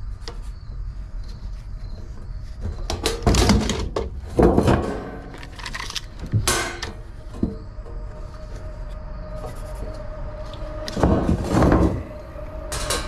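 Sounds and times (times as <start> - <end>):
low steady hum: 0.0 - 13.0
sheet metal rustling and scraping: 1.3 - 13.0.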